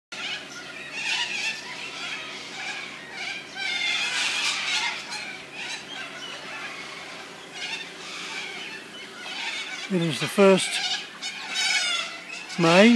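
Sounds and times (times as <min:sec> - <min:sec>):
corellas screeching: 0:00.3 - 0:12.9.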